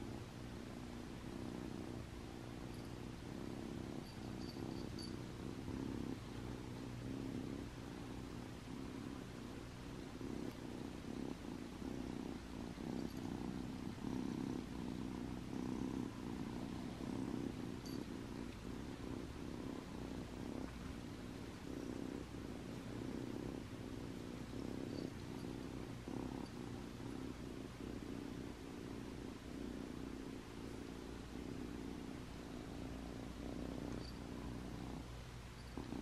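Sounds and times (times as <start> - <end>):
kitten purring: 0.0 - 36.0.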